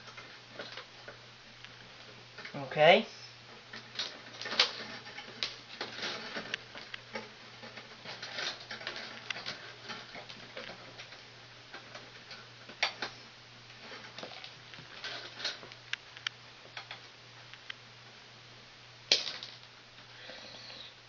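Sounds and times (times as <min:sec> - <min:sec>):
wires clicking and rustling: 0:00.0 - 0:17.8, 0:19.1 - 0:20.8
faint low hum: 0:00.0 - 0:21.0.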